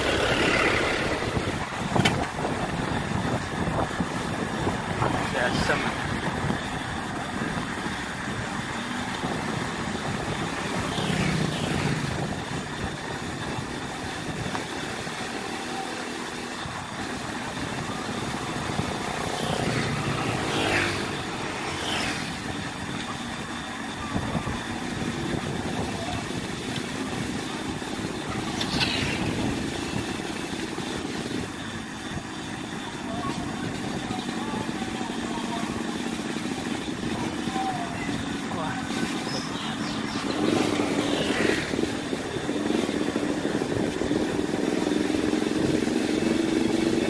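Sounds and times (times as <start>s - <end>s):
wind rushing over microphone: 0.0s - 14.9s, 16.6s - 32.3s, 36.8s - 47.0s
bicycle road noise: 0.0s - 47.0s
motorcycles passing: 0.0s - 47.0s.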